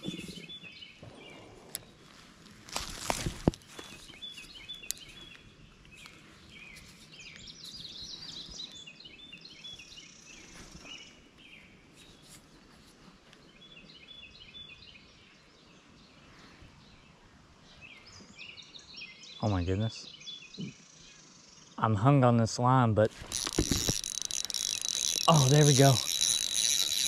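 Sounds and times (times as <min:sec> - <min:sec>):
small birds singing: 0:00.0 - 0:27.0.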